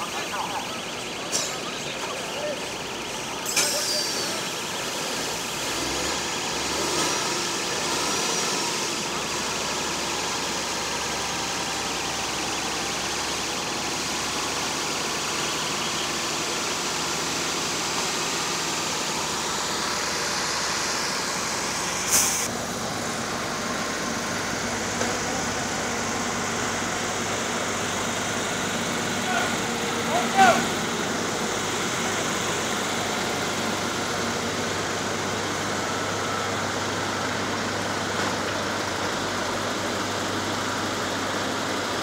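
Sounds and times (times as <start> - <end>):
truck diesel engines running: 0.0 - 42.0.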